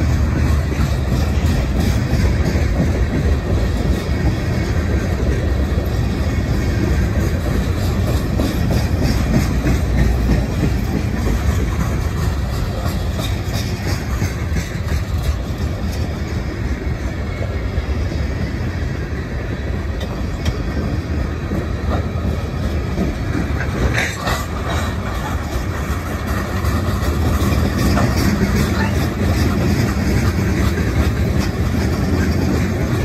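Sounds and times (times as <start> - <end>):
freight train rumbling past: 0.0 - 33.0
wheels clattering on rails: 0.0 - 33.0.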